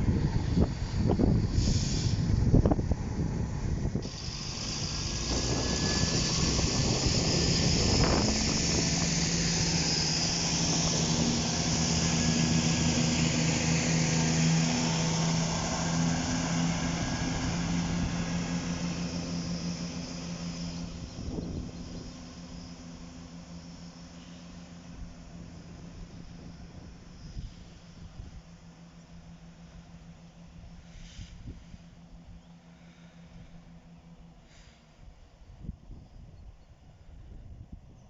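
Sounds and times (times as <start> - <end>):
diesel train passing: 0.0 - 38.0.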